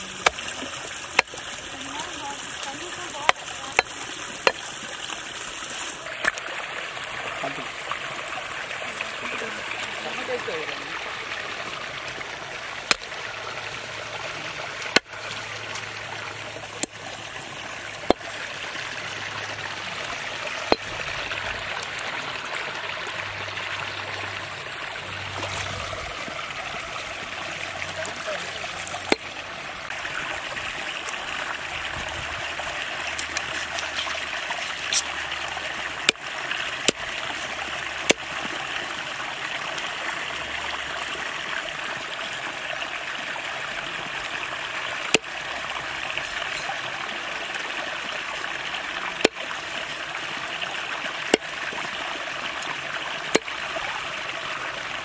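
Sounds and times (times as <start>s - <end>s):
stream rushing: 0.0s - 55.0s.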